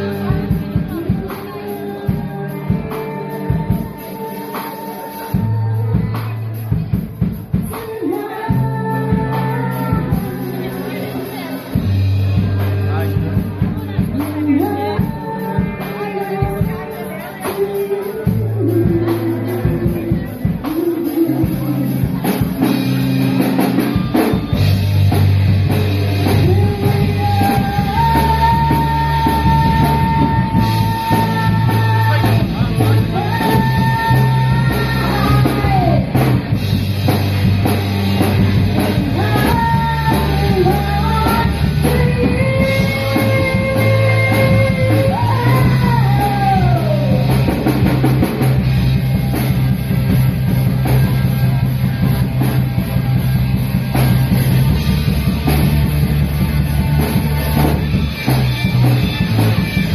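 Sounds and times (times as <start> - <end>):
bending lead melody: 0.0 - 59.9
rock band playing live: 0.0 - 59.9.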